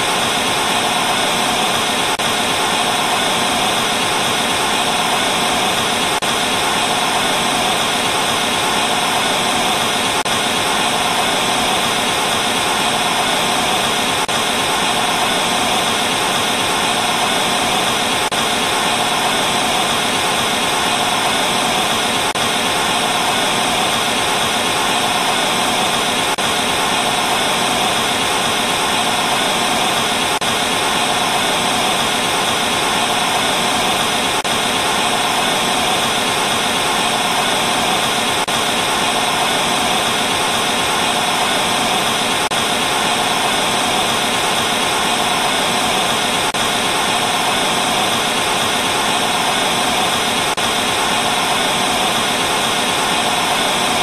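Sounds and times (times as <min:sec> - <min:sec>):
tv static hiss: 0:00.0 - 0:54.0.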